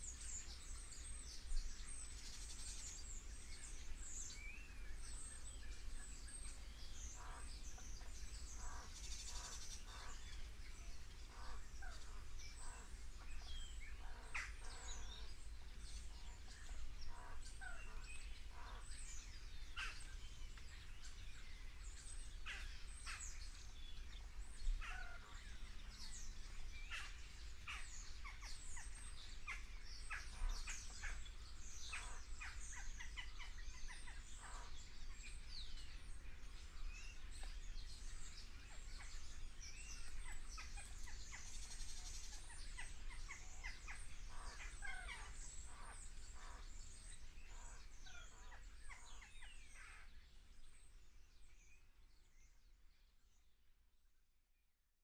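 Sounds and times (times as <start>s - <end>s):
small birds chirping: 0.0s - 53.2s.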